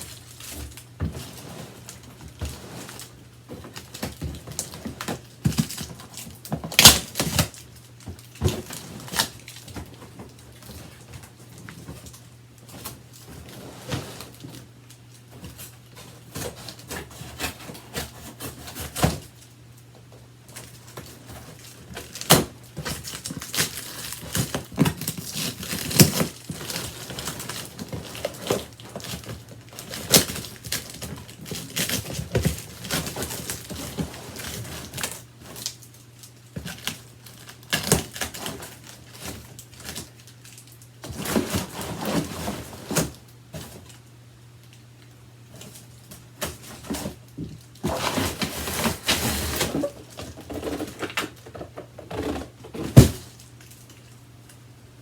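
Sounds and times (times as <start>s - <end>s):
cardboard crinkling and tearing: 0.0s - 19.4s, 20.5s - 44.0s, 45.6s - 54.2s.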